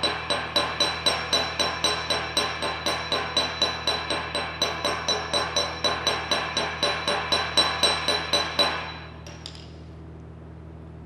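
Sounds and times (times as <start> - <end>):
hammer striking metal: 0.0 - 9.7
steady low hum: 0.0 - 11.0.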